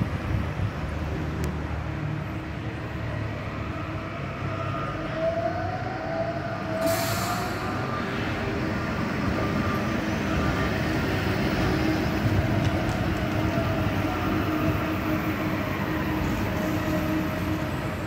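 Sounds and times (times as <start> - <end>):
tram rumbling past: 0.0 - 18.0.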